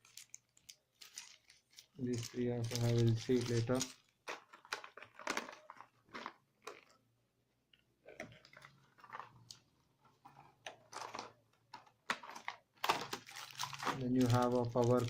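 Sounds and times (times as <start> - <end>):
plastic packaging crinkling: 0.0 - 7.0, 8.0 - 15.0.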